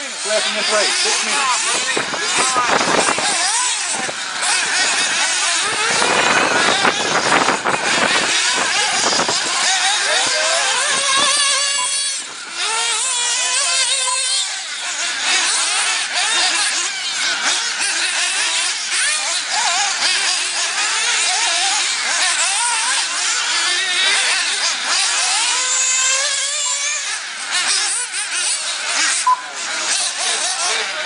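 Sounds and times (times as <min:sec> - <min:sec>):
rc buggy engines buzzing: 0:00.0 - 0:31.0.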